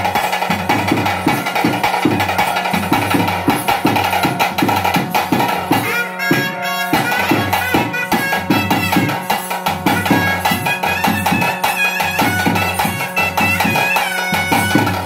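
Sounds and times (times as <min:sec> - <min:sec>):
hand drums beating fast rhythm: 0:00.0 - 0:15.0
pipe playing a melody: 0:00.0 - 0:15.0.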